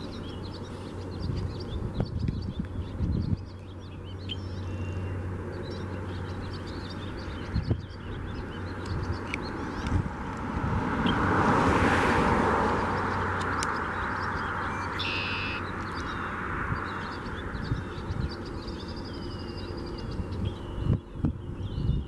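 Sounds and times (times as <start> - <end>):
small birds chirping and trilling: 0.0 - 11.4, 12.4 - 22.0
broad rushing noise: 0.0 - 21.4
low wind rumble on microphone: 0.0 - 22.0.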